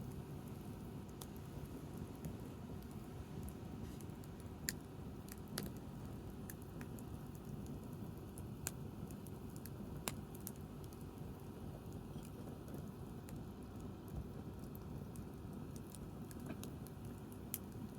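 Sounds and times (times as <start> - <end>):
wood fire crackling: 0.0 - 17.9.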